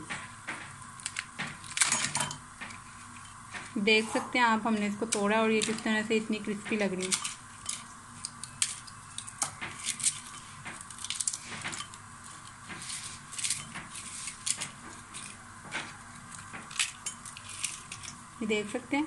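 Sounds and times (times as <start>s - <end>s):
crackers snapping and crunching: 0.0s - 3.8s, 4.8s - 18.4s.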